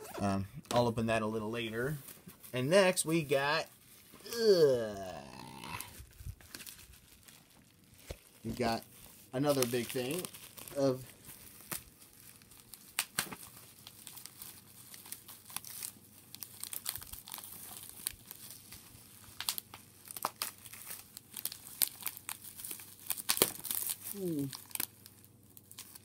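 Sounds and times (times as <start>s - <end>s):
bubble wrap crinkling and crackling: 0.7s - 26.0s.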